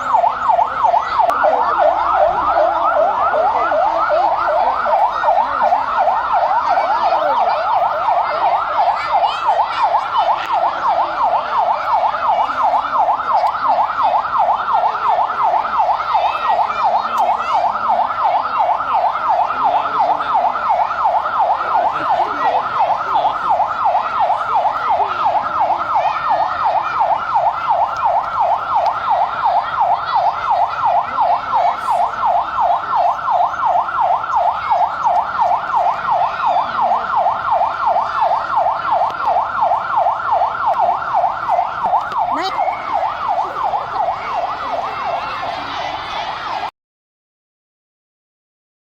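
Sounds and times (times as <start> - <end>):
electronic siren yelping: 0.0 - 46.7.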